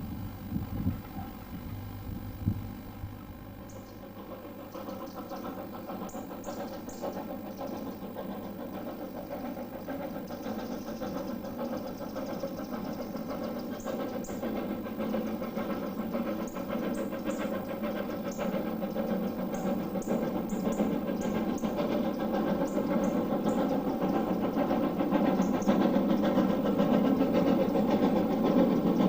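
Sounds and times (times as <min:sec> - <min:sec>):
train rumbling with rhythmic beat: 0:00.0 - 0:29.0.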